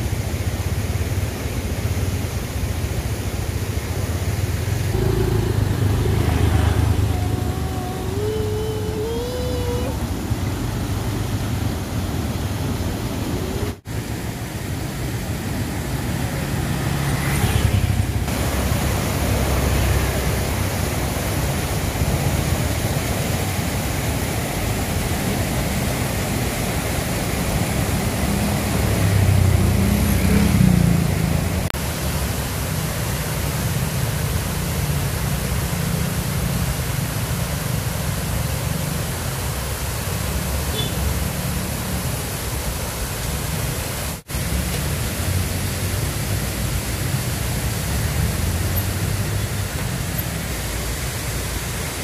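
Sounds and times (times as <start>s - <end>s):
river water rushing over weir: 0.0s - 52.0s.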